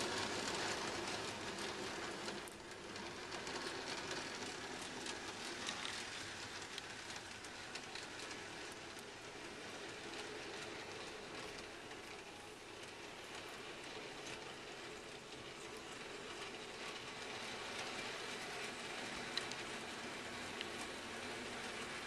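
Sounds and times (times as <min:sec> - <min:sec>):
model train rattling on track: 0:00.0 - 0:22.0
wheels clicking over rail joints: 0:00.0 - 0:22.0.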